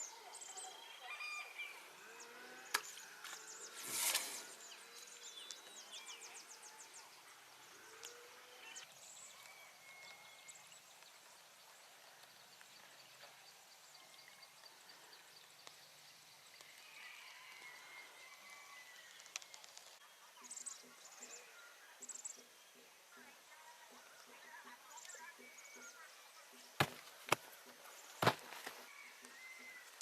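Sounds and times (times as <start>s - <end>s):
small birds chirping: 0.0s - 17.8s, 18.8s - 30.0s.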